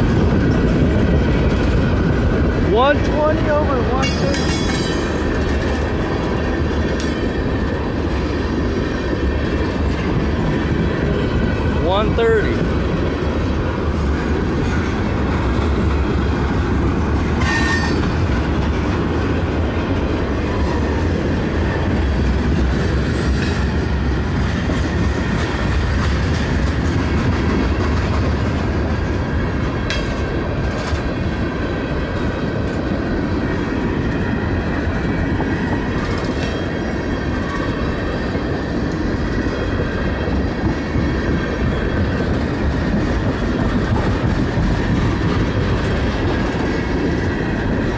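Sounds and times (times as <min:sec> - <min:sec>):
wheels clacking over rail joints: 0:00.0 - 0:11.8, 0:13.5 - 0:47.9
freight train rumbling past: 0:00.0 - 0:47.9.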